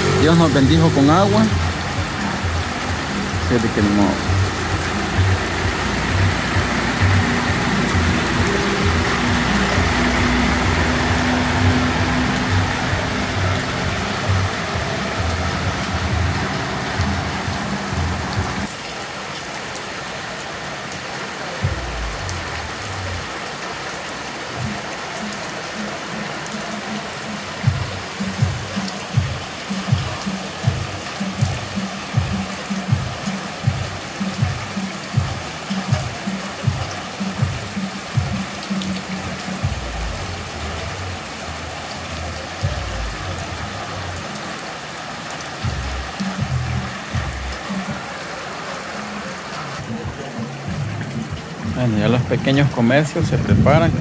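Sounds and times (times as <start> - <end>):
floodwater running over pavement: 0.0 - 54.0
heavy rain on street: 0.0 - 54.0.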